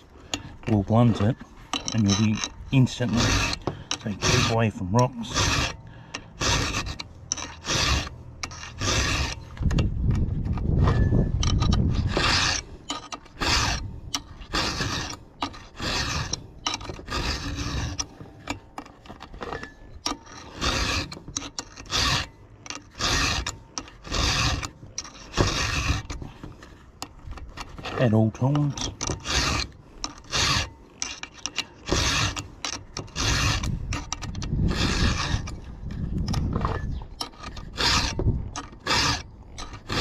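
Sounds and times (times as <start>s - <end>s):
file rasping on chainsaw chain: 0.0s - 40.0s.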